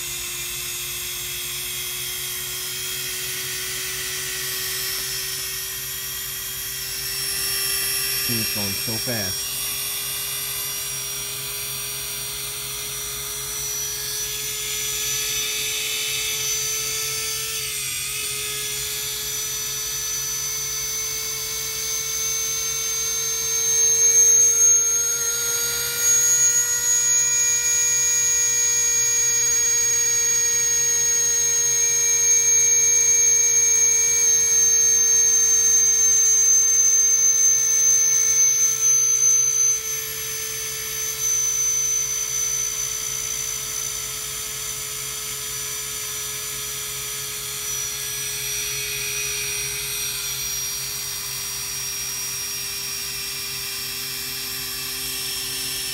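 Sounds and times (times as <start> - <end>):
quadcopter motors whining: 0.0 - 55.9.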